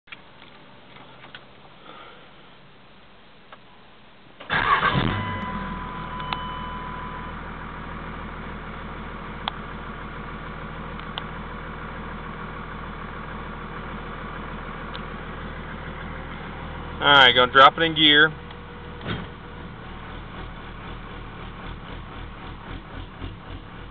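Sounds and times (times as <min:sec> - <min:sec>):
truck engine cranking and idling: 0:04.3 - 0:23.9.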